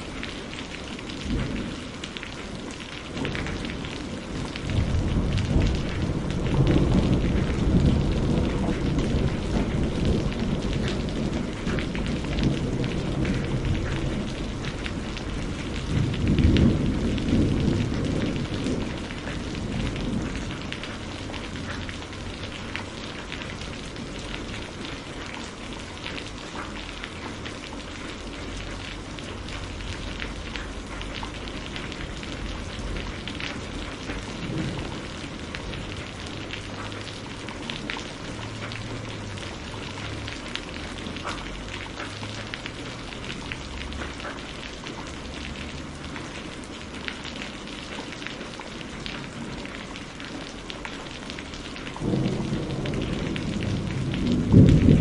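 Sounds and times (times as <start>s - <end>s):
thunder rumbling: 0.0s - 46.6s, 51.4s - 55.0s
steady rain falling: 0.0s - 55.0s.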